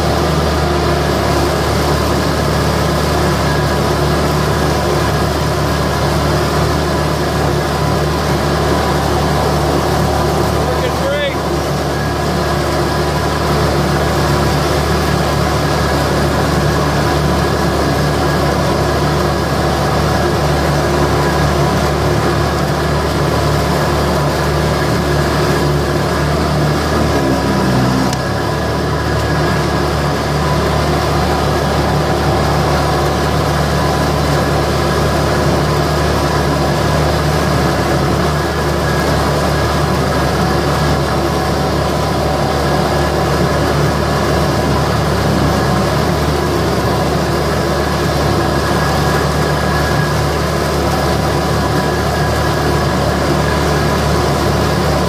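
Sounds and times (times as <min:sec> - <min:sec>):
mower deck cutting grass: 0:00.0 - 0:55.0
mower diesel engine running: 0:00.0 - 0:55.0.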